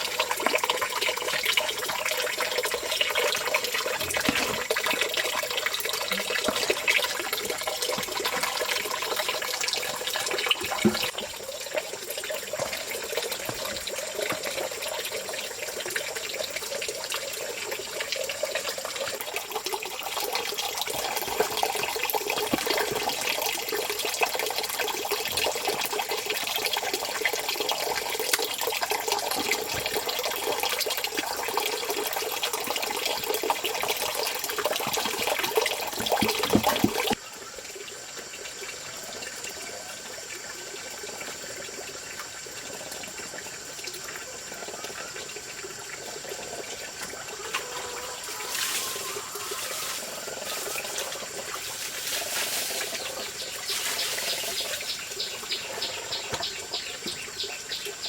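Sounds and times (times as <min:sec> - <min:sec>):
running water splashing: 0:00.0 - 0:58.0.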